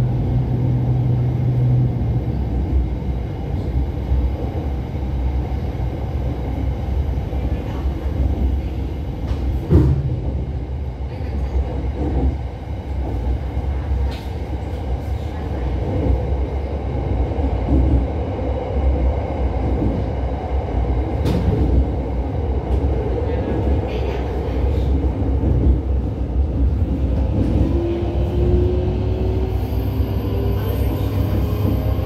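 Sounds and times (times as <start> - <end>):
electric train rumble from inside: 0.0 - 32.0.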